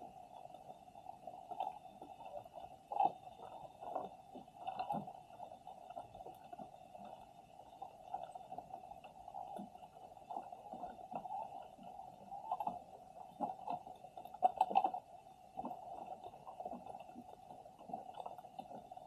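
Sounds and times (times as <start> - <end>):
dull underwater hum: 0.0 - 19.0.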